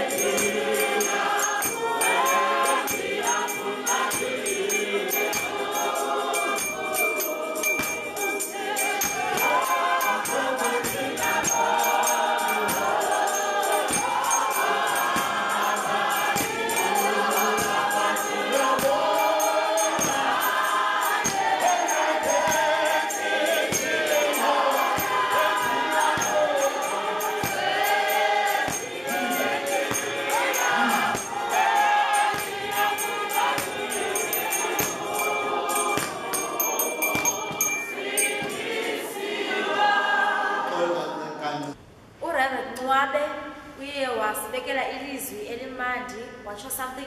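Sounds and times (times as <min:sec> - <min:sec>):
steady clapping beat: 0:00.0 - 0:39.4
choir singing gospel in harmony: 0:00.0 - 0:41.8.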